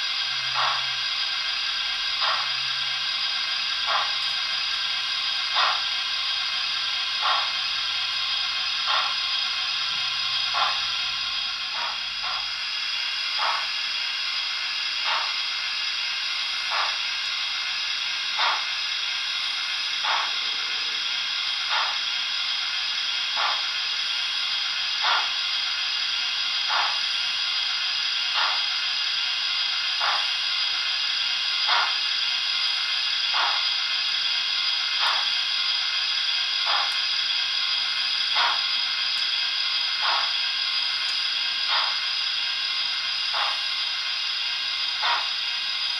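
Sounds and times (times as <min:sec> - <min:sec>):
steam hissing: 0:00.0 - 0:45.9
steam locomotive exhaust chuffs: 0:00.0 - 0:45.9.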